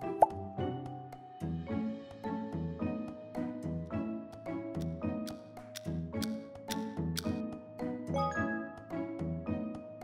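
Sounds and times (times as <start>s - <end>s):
light background music: 0.0s - 10.0s.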